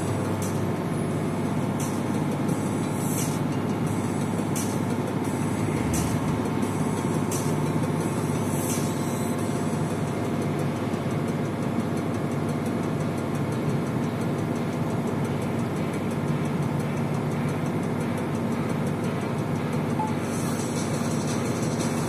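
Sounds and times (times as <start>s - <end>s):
road noise inside vehicle: 0.0s - 22.0s
vehicle engine drone: 0.0s - 22.0s.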